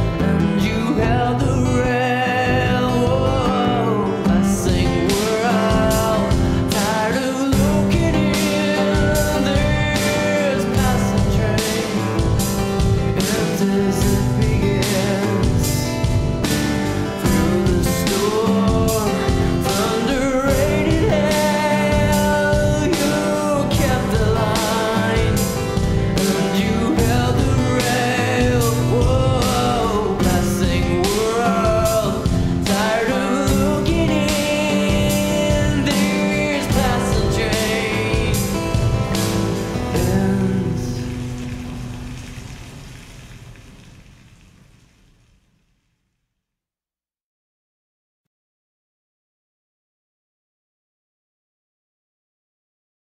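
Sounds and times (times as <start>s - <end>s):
song with singer and instruments: 0.0s - 42.8s.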